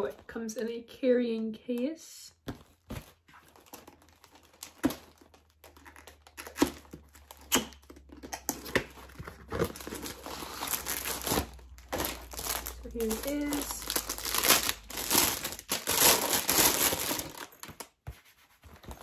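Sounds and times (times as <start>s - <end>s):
packaging crinkling: 2.6s - 18.0s.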